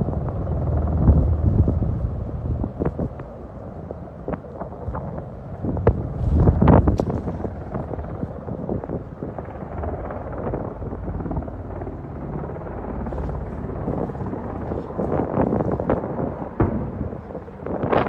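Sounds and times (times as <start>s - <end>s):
helicopter rotor and engine rumble: 0.0s - 18.0s
wind buffeting microphone: 0.0s - 18.0s.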